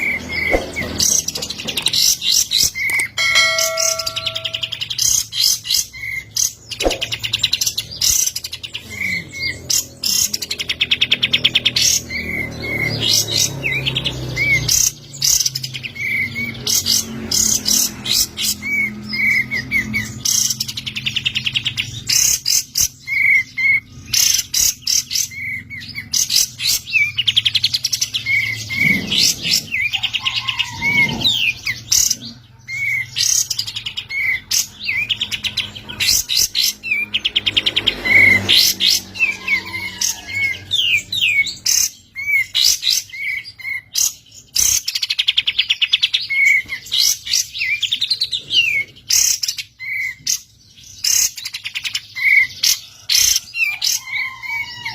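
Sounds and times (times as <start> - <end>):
songbird chirps and trills: 0.0 - 54.9.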